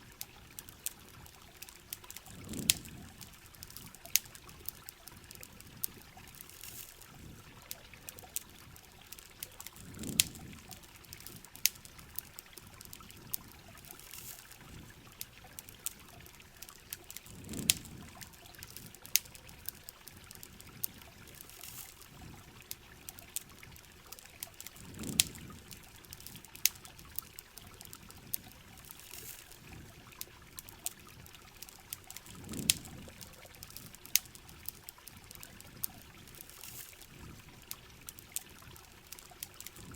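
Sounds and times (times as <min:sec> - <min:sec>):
campfire popping and crackling: 0:00.0 - 0:39.9.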